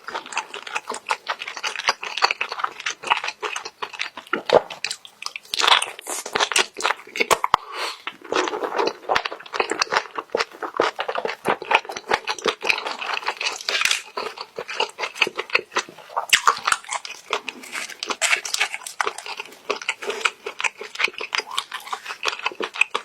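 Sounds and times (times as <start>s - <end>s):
chewing and wet smacking: 0.0s - 23.0s.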